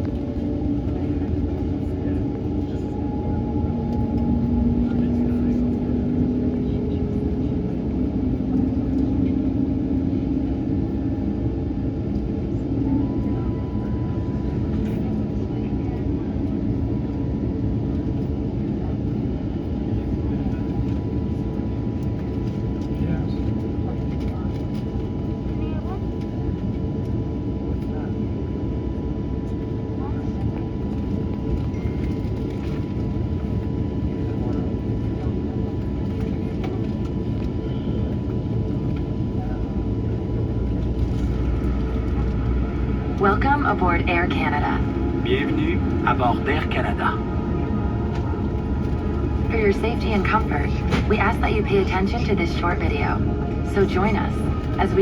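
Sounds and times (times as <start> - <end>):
aircraft cabin rumble and hum: 0.0 - 55.0.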